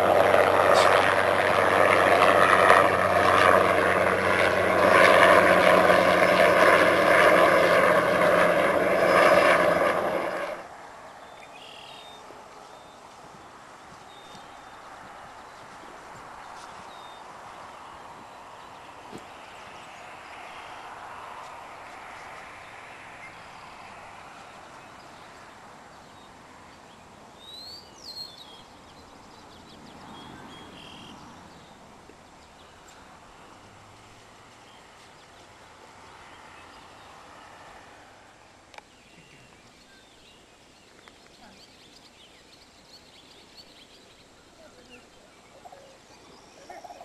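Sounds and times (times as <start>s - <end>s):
soft outdoor hiss: 0.0s - 47.0s.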